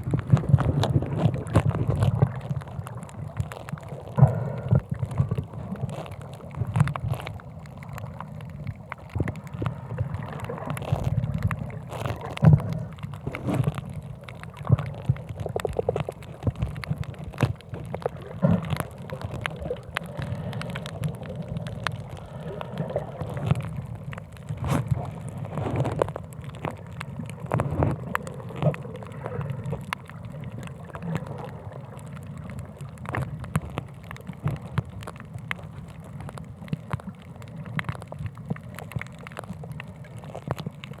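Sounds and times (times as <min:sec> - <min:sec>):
sharp clicks and pops: 0:00.0 - 0:41.0.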